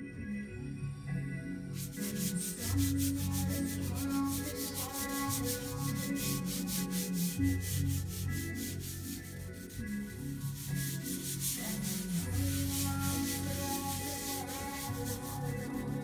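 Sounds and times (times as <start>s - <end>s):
pop song with bass line: 0.0s - 16.0s
fingers scraping charcoal on paper: 1.8s - 16.0s.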